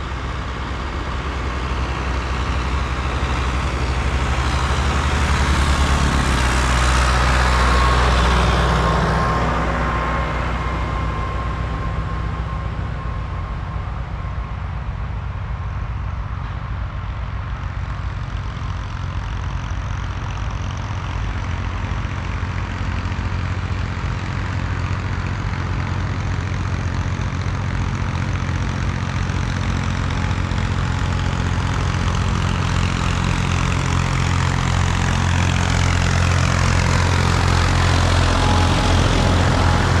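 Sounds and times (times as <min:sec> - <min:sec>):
tractor engines running: 0:00.0 - 0:40.0.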